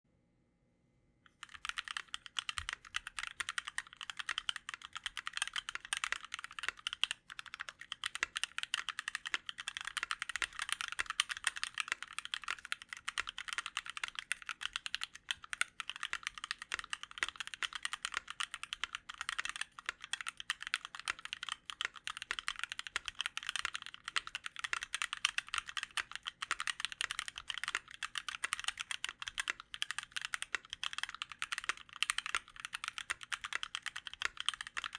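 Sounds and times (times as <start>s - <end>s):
fast typing on mechanical keyboard: 1.3s - 34.9s.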